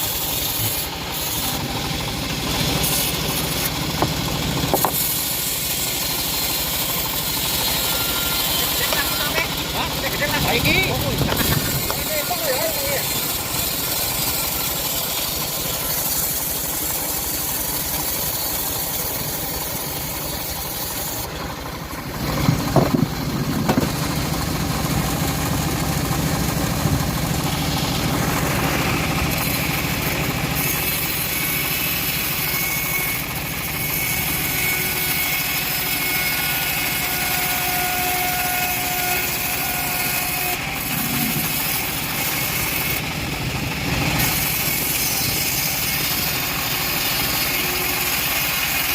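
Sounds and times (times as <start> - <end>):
chainsaw cutting wood: 0.0 - 21.3, 26.4 - 48.9.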